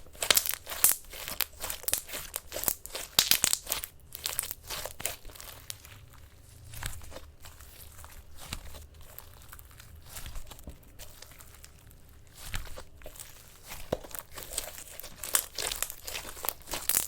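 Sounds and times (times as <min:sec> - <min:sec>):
slime squished by hand: 0:00.0 - 0:17.0.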